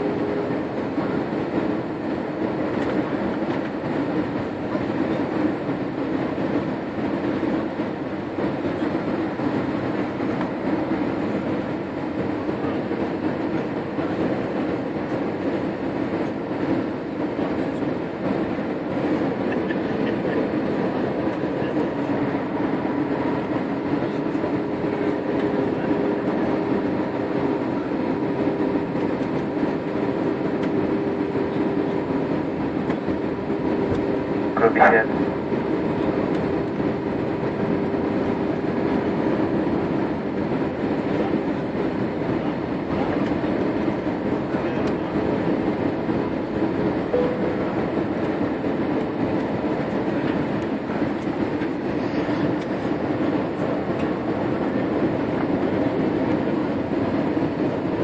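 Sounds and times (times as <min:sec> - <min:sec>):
airliner cabin engine roar: 0:00.0 - 0:58.0
steady engine tone: 0:00.0 - 0:58.0.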